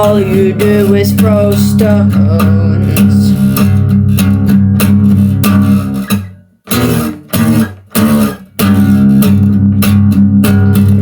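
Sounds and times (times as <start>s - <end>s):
rock band guitars and bass: 0.0s - 11.0s.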